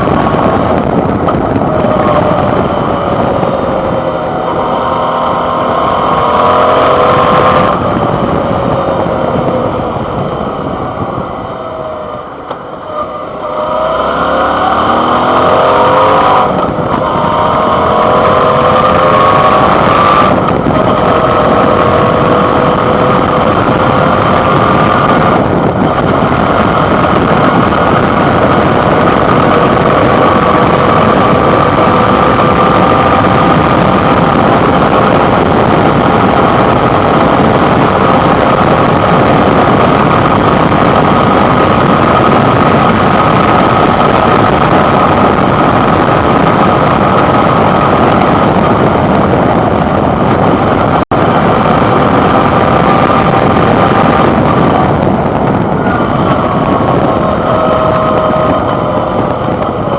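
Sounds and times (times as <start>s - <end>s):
motorcycle engine accelerating: 0.0s - 59.9s
wind rushing on microphone: 0.0s - 59.9s.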